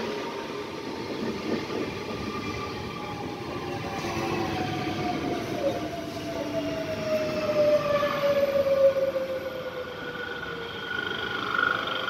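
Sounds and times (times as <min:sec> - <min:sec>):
high steady train squeal: 0:00.0 - 0:12.0
train wheel and rail rumble: 0:00.0 - 0:12.0.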